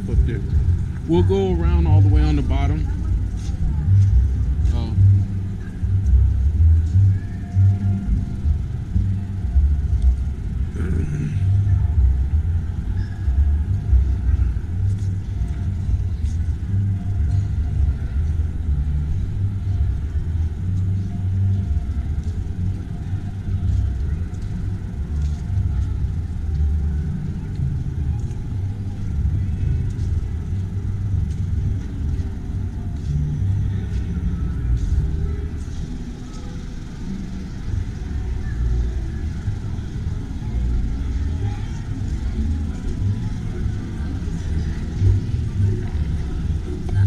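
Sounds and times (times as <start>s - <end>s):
air noise on microphone: 0.0s - 47.0s.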